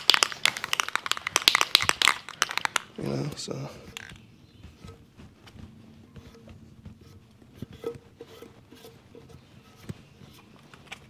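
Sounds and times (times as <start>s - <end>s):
handling clicks and knocks: 0.0s - 11.0s.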